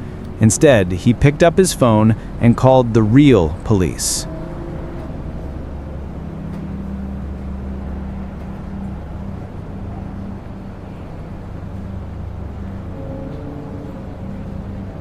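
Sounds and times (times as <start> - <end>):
constant background noise: 0.0 - 15.0
steady low hum: 0.0 - 15.0.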